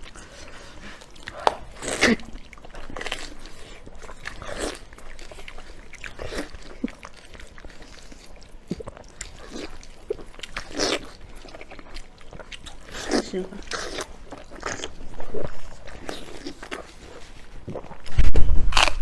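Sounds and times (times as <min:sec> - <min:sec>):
close-up chewing and biting: 0:00.0 - 0:19.0.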